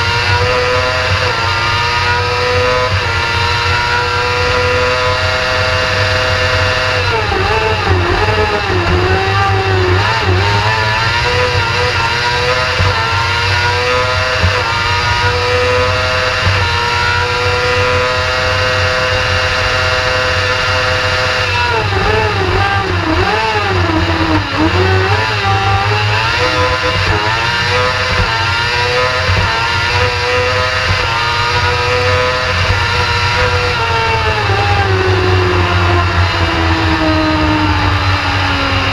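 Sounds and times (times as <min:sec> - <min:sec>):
motorcycle engine at full throttle: 0:00.0 - 0:38.9.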